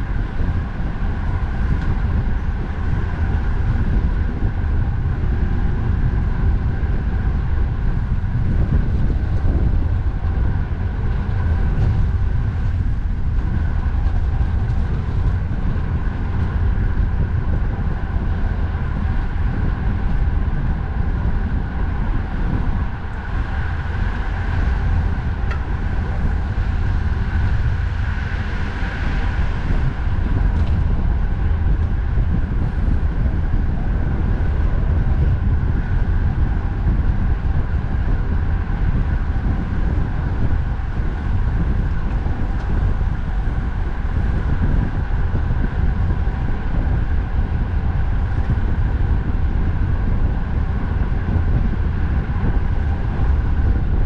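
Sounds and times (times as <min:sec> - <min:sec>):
faint steady hums: 0:00.0 - 0:54.0
motor traffic noise: 0:00.0 - 0:54.0
wind rumble on microphone: 0:00.0 - 0:54.0.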